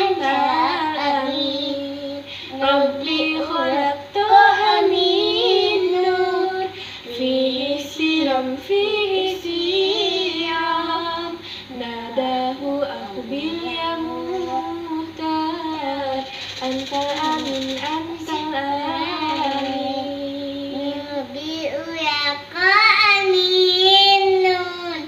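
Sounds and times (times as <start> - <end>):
girl and woman singing: 0.0 - 25.0.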